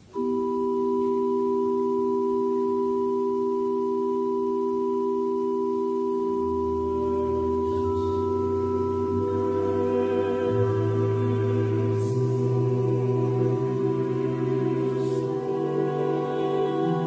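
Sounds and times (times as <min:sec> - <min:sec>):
chord of steady pure tones: 0:00.0 - 0:17.0
higher tone: 0:00.1 - 0:17.0
low hum: 0:00.2 - 0:17.0.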